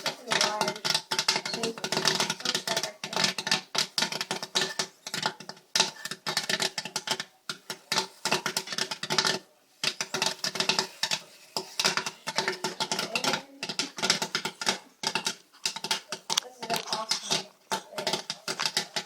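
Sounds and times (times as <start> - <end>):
popcorn kernels popping: 0.0 - 19.0.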